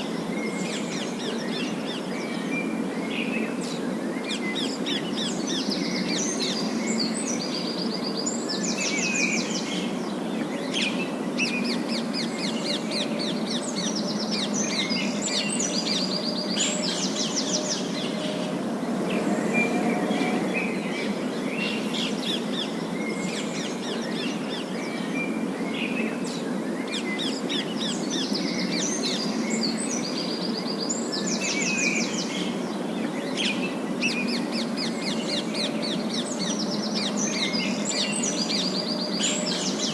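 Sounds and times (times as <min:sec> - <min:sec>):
low background noise: 0:00.0 - 0:39.9.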